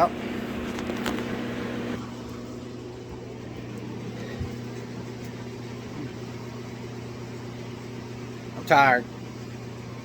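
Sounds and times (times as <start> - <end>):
electric fan humming: 0.0 - 10.0.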